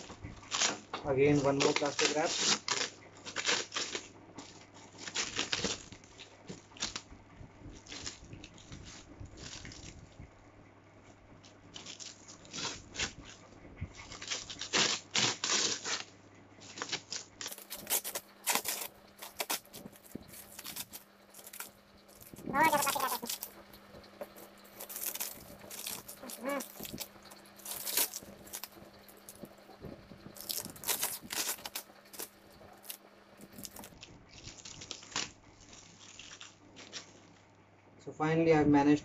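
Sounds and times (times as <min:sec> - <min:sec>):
plastic wrap crinkling and tearing: 0:00.0 - 0:07.1, 0:07.7 - 0:10.2, 0:11.4 - 0:37.6.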